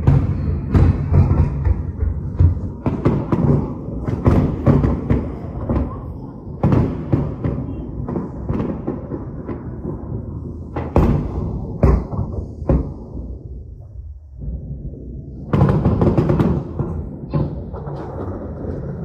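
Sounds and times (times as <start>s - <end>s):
rumble of echoing blasts: 0.0s - 19.0s.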